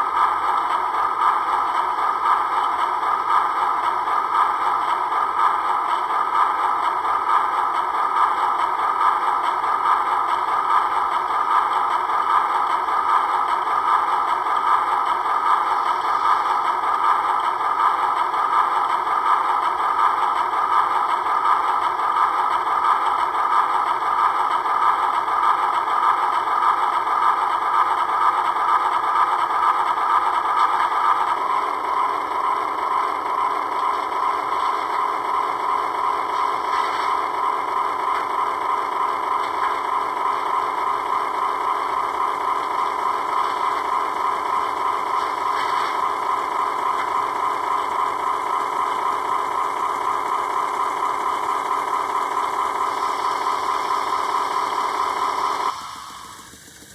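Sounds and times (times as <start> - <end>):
model steam locomotive running: 0.0 - 56.9.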